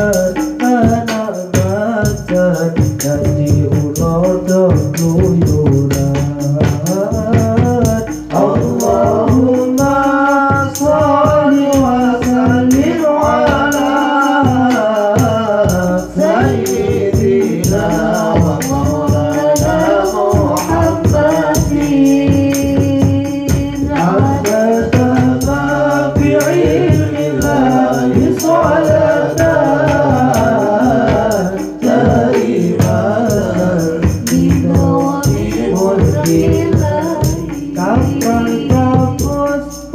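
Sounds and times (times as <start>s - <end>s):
hand-struck frame drums: 0.0s - 39.9s
voices singing devotional song: 0.0s - 39.9s.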